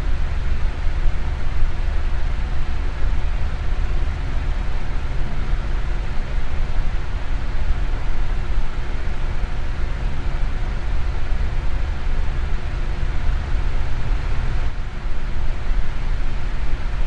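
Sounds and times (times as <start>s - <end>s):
electric fan rushing air: 0.0s - 17.0s
faint steady hum: 0.0s - 17.0s.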